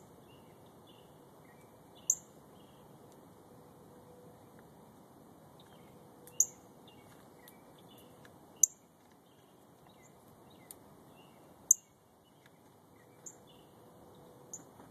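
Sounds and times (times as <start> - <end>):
other birds chirping: 0.0 - 2.9, 5.6 - 14.9.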